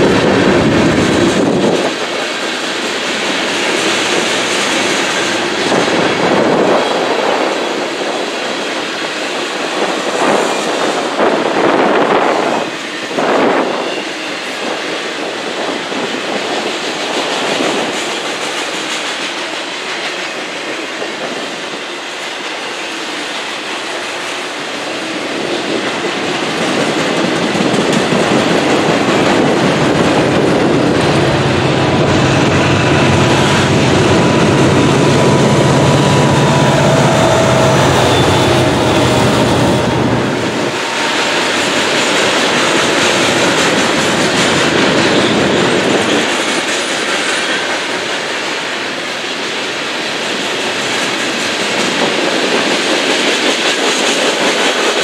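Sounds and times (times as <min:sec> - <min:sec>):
diesel locomotive engine drone: 0:00.0 - 0:55.0
train wheels rolling on rails: 0:00.0 - 0:55.0.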